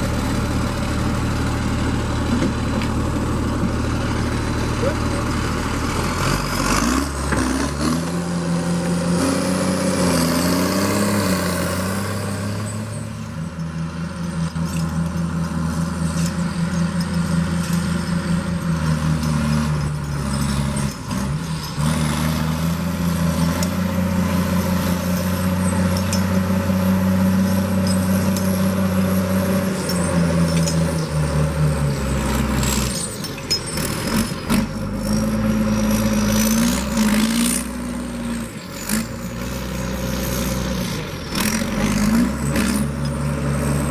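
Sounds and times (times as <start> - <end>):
heavy diesel engine under load: 0.0 - 43.9.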